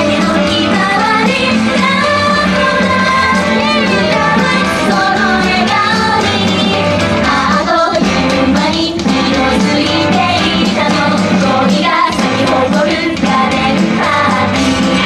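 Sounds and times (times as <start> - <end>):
amplified pop backing music: 0.0 - 15.0
women singing together: 0.0 - 15.0.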